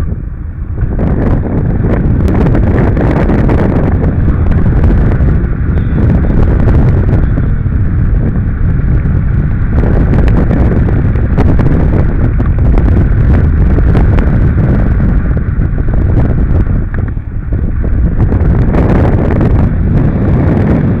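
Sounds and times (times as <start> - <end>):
wind rumbling over microphone: 0.0 - 21.0.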